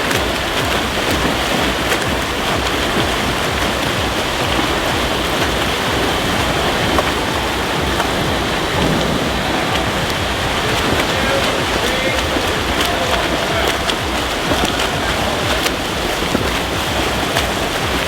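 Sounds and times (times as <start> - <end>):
swimmers splashing in pool: 0.0 - 18.0.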